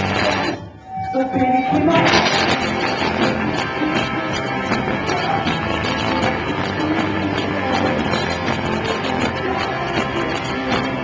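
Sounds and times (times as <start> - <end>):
drums: 0.0 - 11.0
electric guitar: 0.0 - 11.0.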